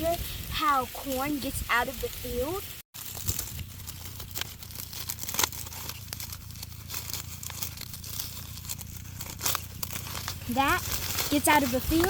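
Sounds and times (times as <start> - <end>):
dry corn leaves rustling: 0.0 - 12.0
low steady rumble: 0.0 - 12.0.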